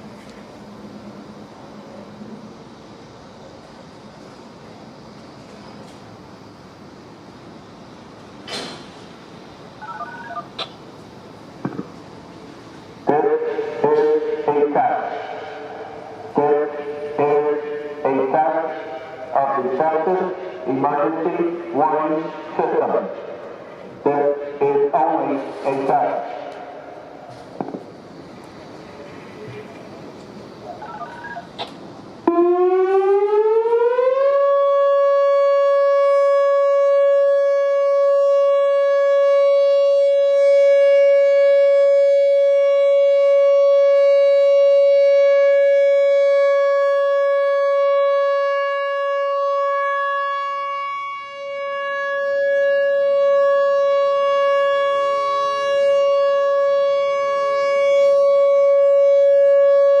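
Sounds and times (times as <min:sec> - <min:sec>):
outdoor warning siren: 0:09.3 - 1:00.0.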